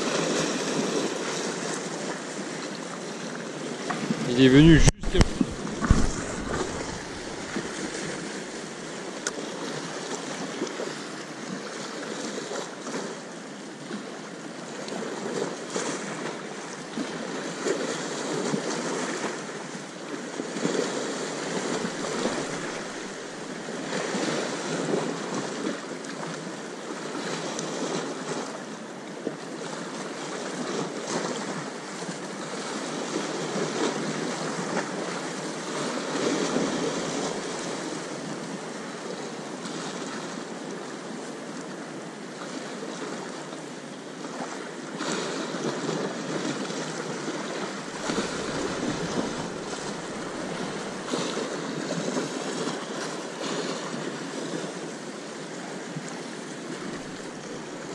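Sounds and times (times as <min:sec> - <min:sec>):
sea waves washing ashore: 0:00.0 - 0:57.9.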